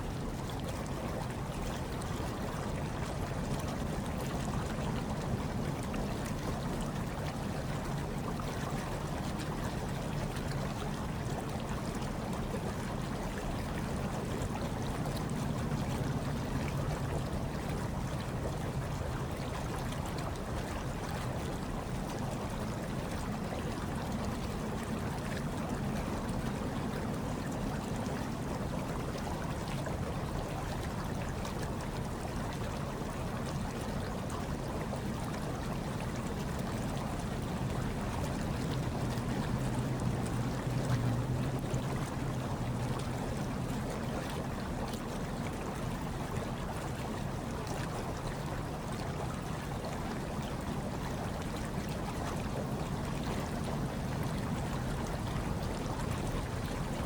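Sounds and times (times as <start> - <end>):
hot tub water bubbling: 0.0 - 57.0.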